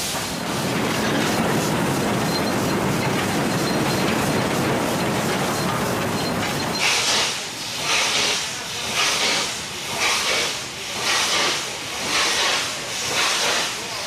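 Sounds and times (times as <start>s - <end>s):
steam locomotive chuffing: 0.0s - 14.0s
train rumbling: 0.0s - 14.0s.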